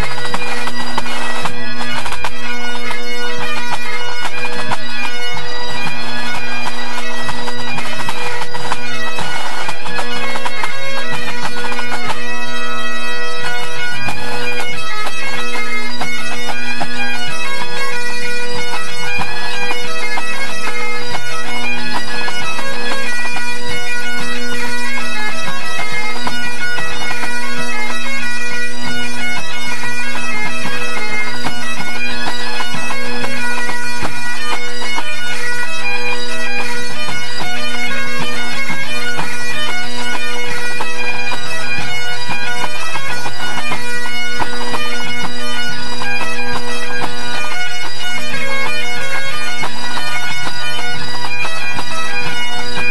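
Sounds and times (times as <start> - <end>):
bagpipes playing: 0.0 - 52.9.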